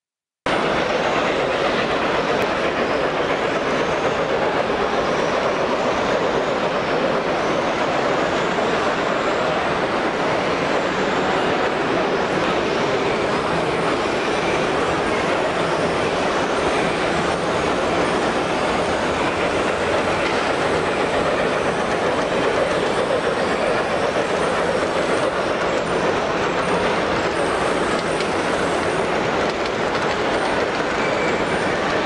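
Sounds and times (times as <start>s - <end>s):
model train wheels rolling on rail: 0.5s - 32.0s.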